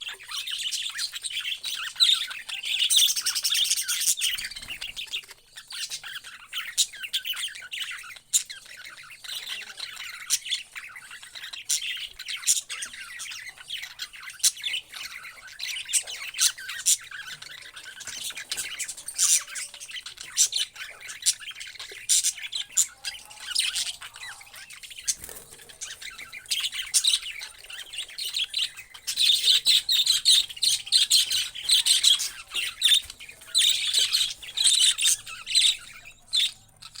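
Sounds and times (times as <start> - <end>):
parrots chirping and squawking: 0.0 - 37.0.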